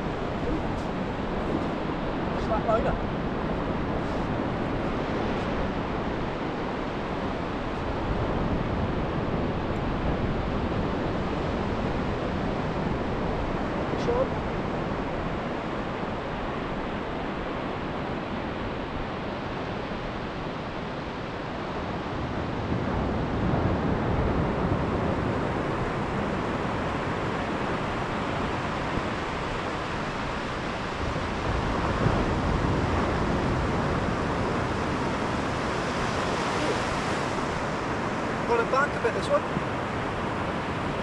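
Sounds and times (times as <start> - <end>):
waves breaking on a beach: 0.0 - 41.0
wind on microphone: 0.0 - 41.0.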